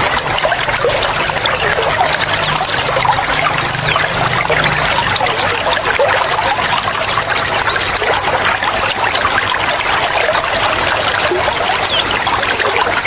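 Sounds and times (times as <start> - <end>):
small birds chirping: 0.0 - 8.4, 10.8 - 13.0
running water splashing: 0.0 - 13.0.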